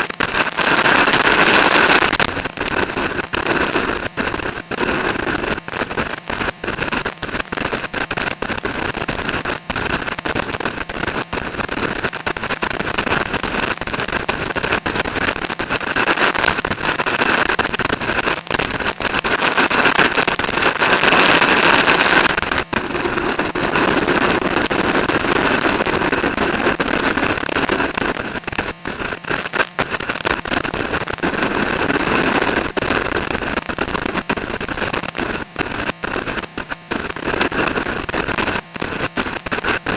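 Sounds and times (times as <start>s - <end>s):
crackles: 0.0s - 39.9s.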